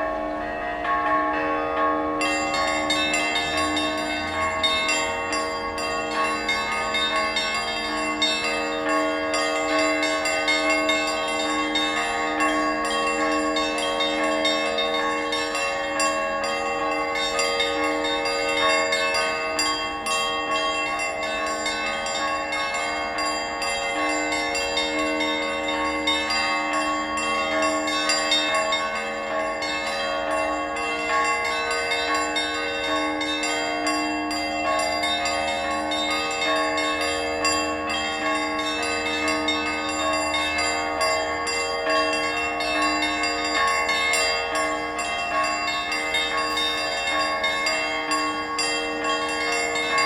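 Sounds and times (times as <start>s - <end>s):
church bells ringing: 0.0s - 50.0s.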